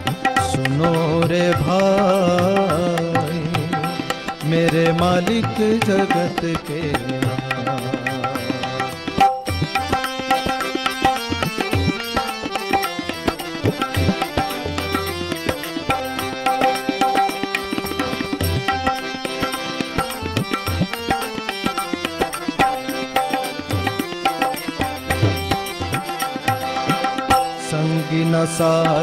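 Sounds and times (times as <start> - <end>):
harmonium melody: 0.0 - 29.0.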